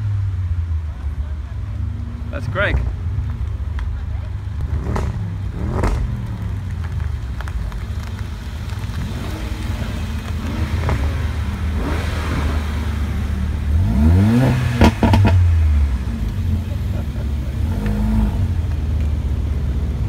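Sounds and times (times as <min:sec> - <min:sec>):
car engine revving: 0:00.0 - 0:20.0
car engines rumbling: 0:00.0 - 0:20.0.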